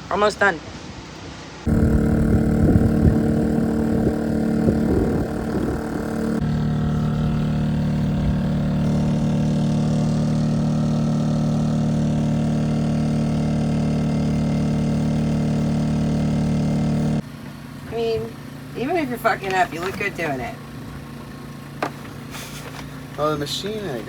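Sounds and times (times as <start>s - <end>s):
engine humming: 1.7s - 24.0s.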